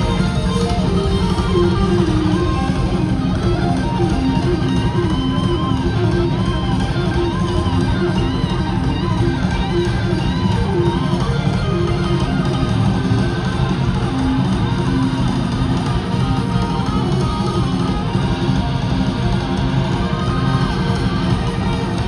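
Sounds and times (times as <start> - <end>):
electric guitar lead: 0.0 - 22.0
heavy bass: 0.0 - 22.0
strummed guitar: 0.0 - 22.0.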